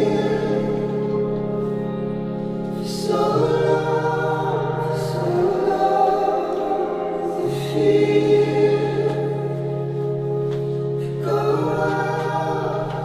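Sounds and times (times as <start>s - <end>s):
voices singing over low held notes: 0.0s - 13.0s.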